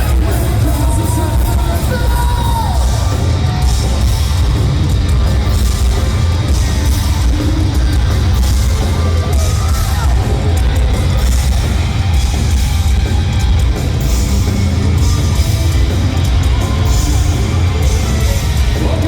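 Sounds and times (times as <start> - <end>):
live heavy metal music: 0.0 - 19.0.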